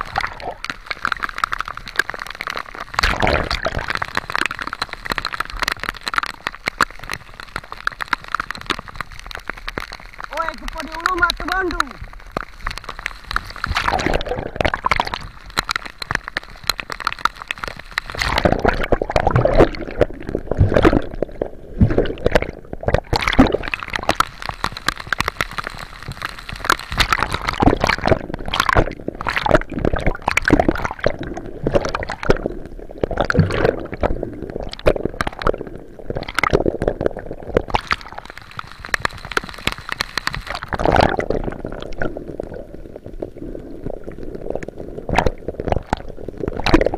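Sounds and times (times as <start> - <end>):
sea water sloshing and splashing: 0.0 - 46.9.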